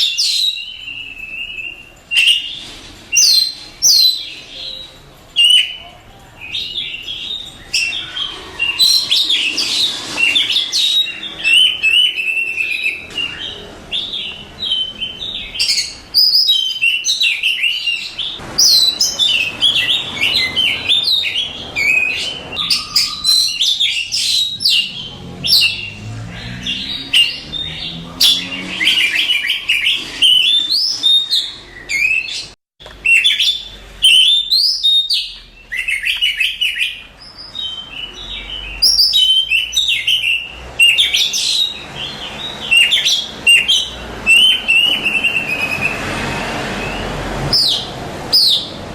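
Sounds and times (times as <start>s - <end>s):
bird singing whistles and chirps: 0.0s - 46.0s.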